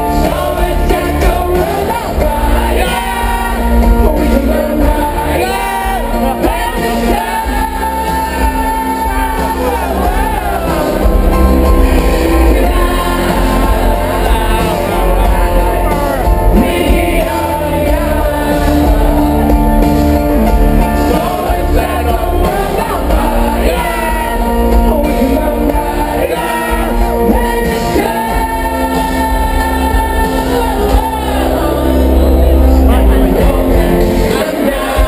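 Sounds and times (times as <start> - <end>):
live band playing loud music: 0.0 - 35.0
person singing: 0.0 - 35.0.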